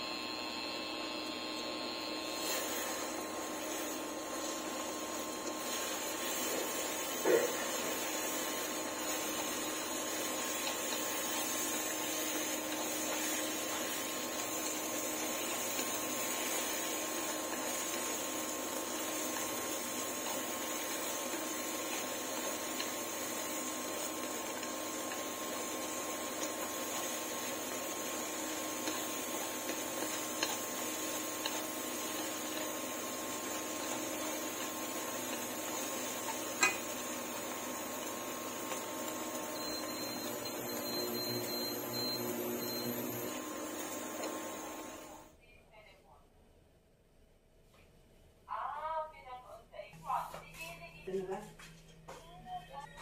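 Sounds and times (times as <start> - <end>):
mechanical hum with hiss: 0.0 - 45.9.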